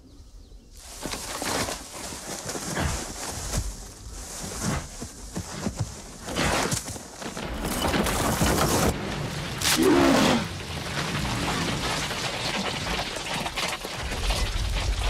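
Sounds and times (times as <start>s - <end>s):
claws scraping and cracking wood: 0.8s - 9.0s, 9.6s - 15.0s.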